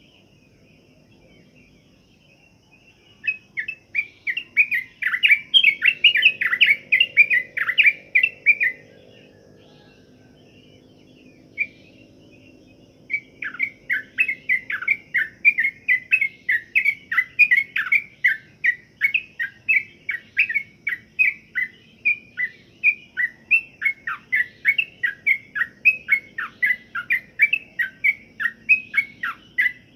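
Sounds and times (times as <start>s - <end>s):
bird chirping song: 0.0s - 29.9s
faint low hum: 0.0s - 29.9s.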